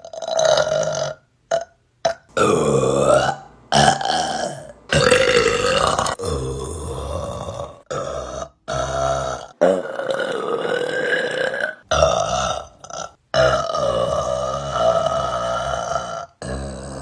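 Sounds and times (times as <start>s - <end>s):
woman burping: 0.0s - 17.0s.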